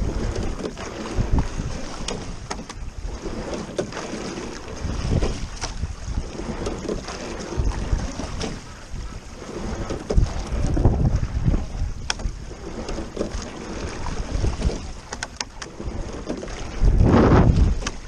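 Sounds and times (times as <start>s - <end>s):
oars clicking in oarlocks: 0.0s - 18.0s
water splashing and rushing: 0.0s - 18.0s
wind rumbling on microphone: 0.0s - 18.0s.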